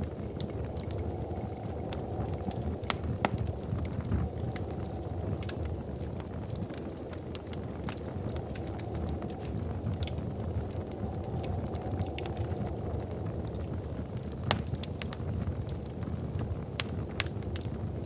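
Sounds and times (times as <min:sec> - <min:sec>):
fire crackling and popping: 0:00.0 - 0:18.0
fire flames rumbling: 0:00.0 - 0:18.0.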